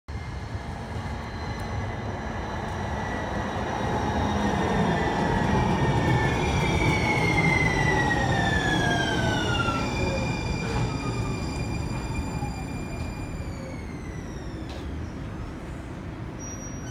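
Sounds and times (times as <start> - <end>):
train wheels rumbling on rails: 0.1 - 16.4.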